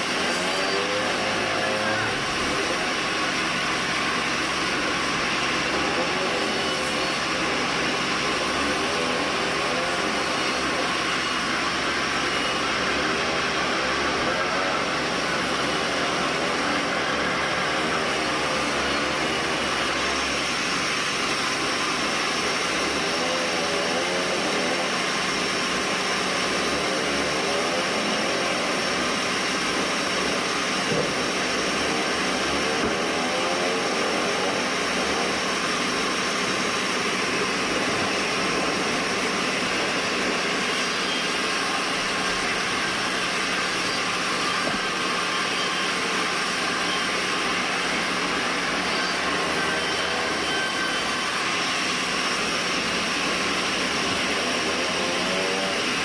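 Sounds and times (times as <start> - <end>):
band sawmill running: 0.0 - 56.0.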